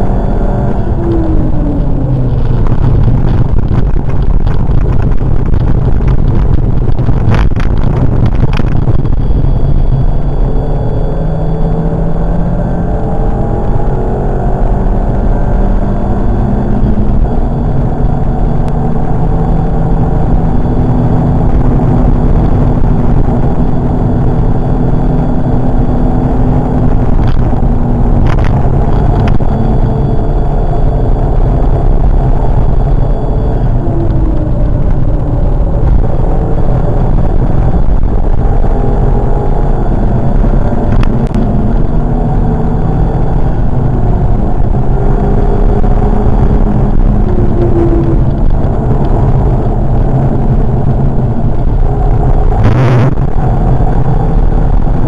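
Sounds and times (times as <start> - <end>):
car engine under load: 0.0 - 55.0
road and tyre noise: 0.0 - 55.0.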